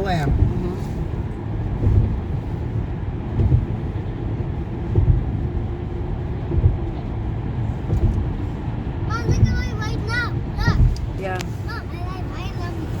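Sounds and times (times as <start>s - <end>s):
tyres and engine rumble: 0.0s - 13.0s
low thumps: 0.2s - 11.7s.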